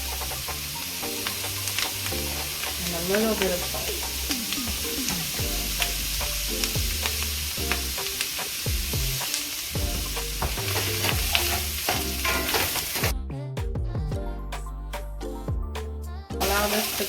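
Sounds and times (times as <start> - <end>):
food sizzling in a pan: 0.0 - 13.1, 16.4 - 17.0.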